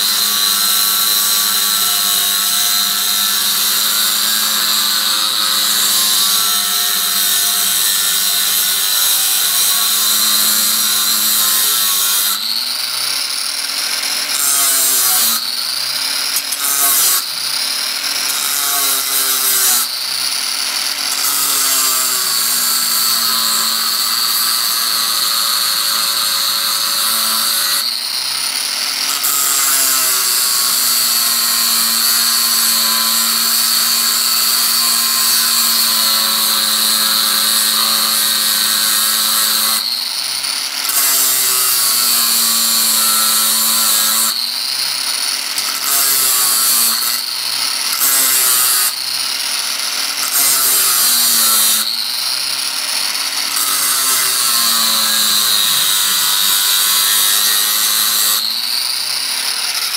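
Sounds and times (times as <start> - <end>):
angle grinder cutting metal: 0.0 - 59.9.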